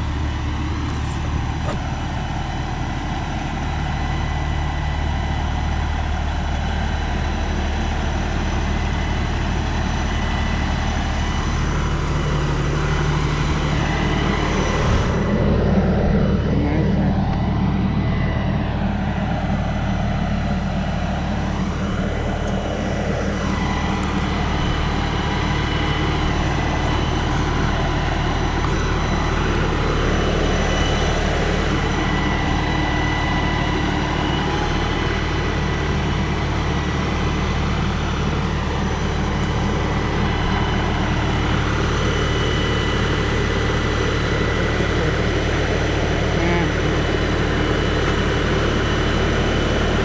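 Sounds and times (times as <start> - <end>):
high whine: 0.0 - 50.0
tractor diesel engine running: 0.0 - 50.0.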